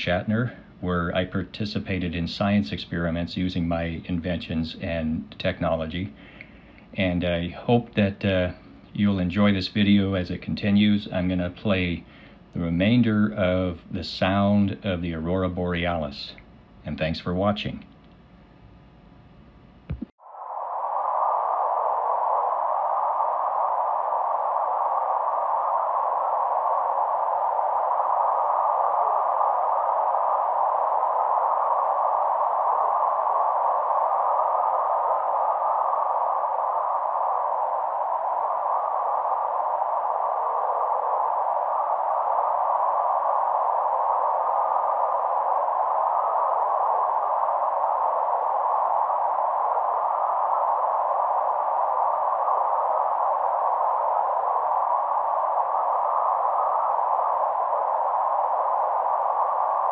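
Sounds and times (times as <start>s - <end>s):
steady even hiss: 0.0s - 17.9s, 19.9s - 59.9s.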